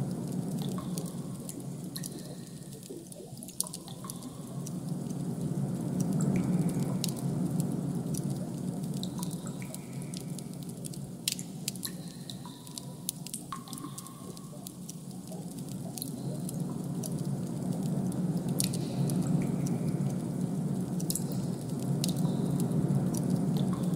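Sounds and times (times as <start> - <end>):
high drip-like plinks: 0.0 - 23.9.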